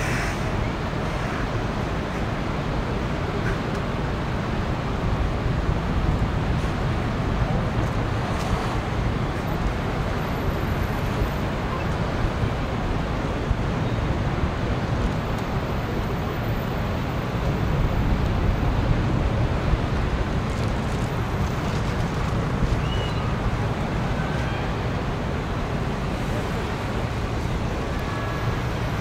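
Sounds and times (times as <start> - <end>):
distant traffic hum: 0.0 - 29.0
wind rumbling on microphone: 0.0 - 29.0.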